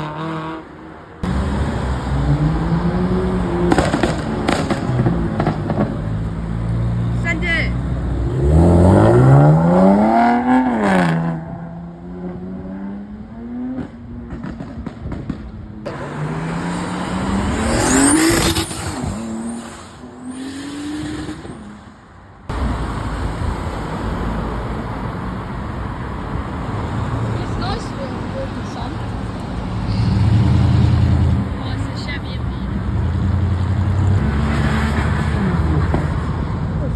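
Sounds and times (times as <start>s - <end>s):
car engines revving and accelerating: 0.0s - 36.9s.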